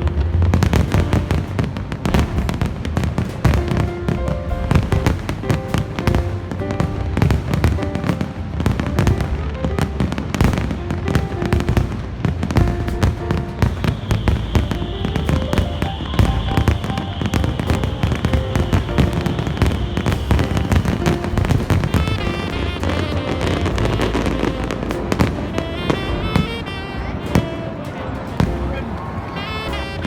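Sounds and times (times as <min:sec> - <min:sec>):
fireworks bangs and crackles: 0:00.0 - 0:30.0
music playing: 0:00.0 - 0:30.0.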